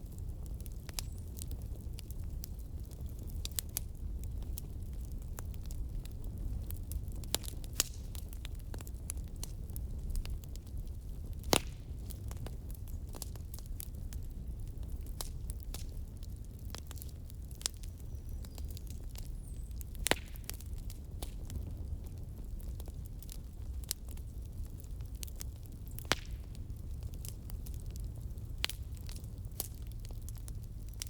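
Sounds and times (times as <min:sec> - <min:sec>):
wood fire crackling: 0:00.0 - 0:31.0
fire pops: 0:00.1 - 0:31.0.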